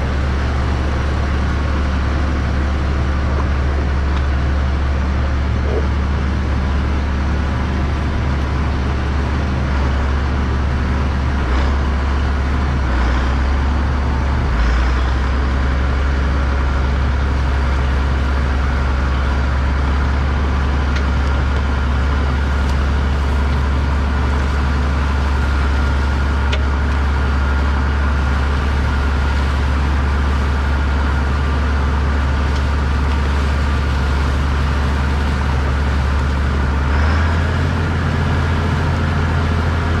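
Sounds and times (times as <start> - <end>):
large engine droning: 0.0 - 40.0.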